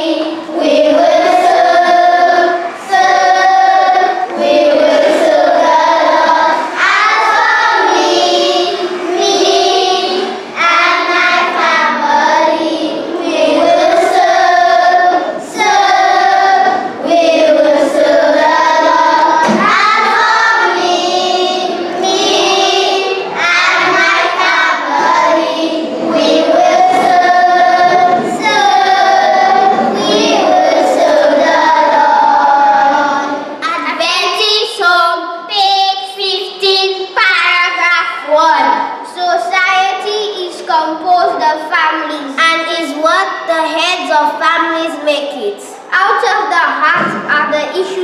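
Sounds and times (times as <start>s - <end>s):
children singing in unison: 0.0s - 39.4s.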